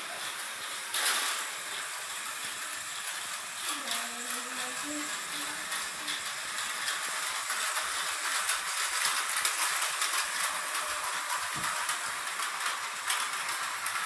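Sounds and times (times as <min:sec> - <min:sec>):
toy train rattling on track: 0:00.0 - 0:14.0.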